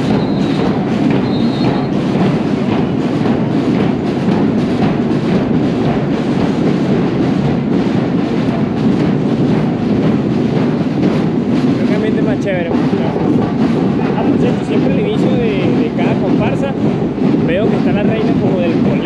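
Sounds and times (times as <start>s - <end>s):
marching band drums: 0.0s - 19.0s.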